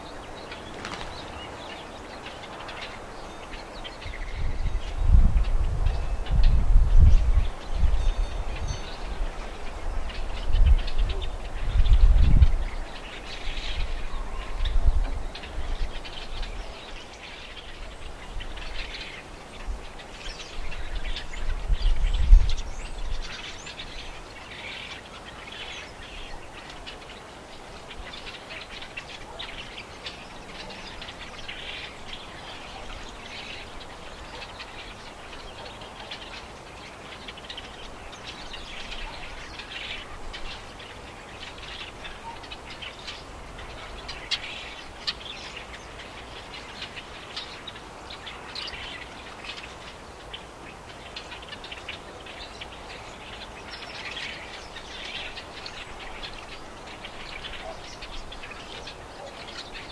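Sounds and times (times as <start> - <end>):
finches chirping and twittering: 0.0 - 59.9.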